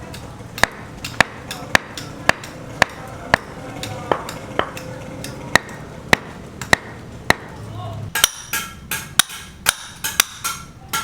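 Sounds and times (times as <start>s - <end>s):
hammer blows ringing metallically: 0.0s - 11.0s.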